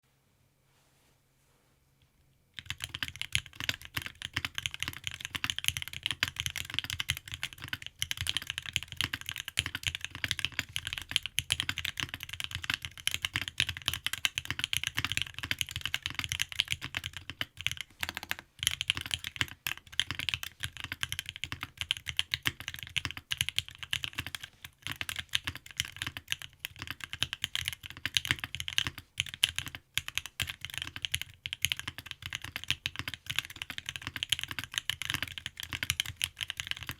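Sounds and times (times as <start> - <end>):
fast mechanical keyboard typing: 2.6 - 36.9.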